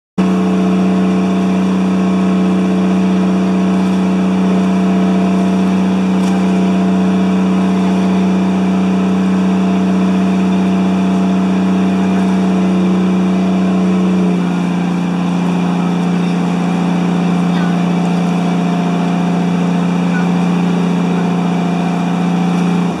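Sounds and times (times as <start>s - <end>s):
boat engine humming: 0.2s - 23.0s.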